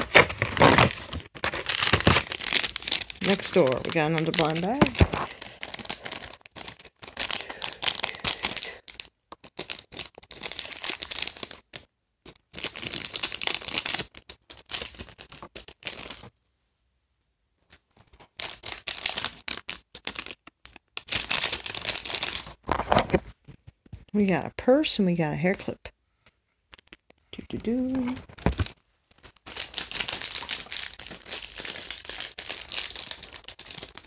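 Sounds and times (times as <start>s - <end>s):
plastic packet crinkling and tearing: 0.0s - 16.3s, 18.0s - 23.2s, 26.7s - 34.0s.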